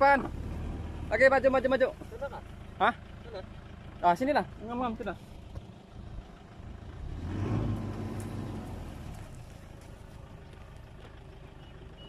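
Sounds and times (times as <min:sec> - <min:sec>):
pickup truck engine: 0:00.0 - 0:12.0.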